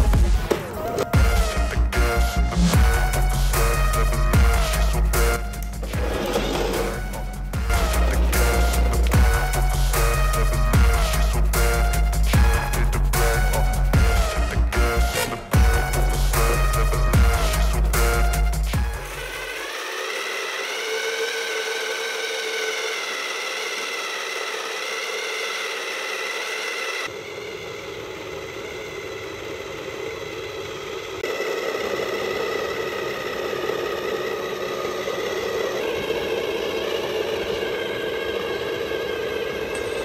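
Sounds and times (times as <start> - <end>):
toy car motor and gears whining: 0.3 - 40.0.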